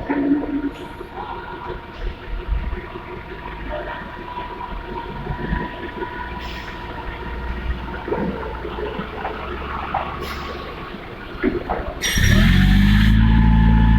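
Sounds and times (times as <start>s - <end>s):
heavy industrial machinery rumble: 0.0s - 13.9s.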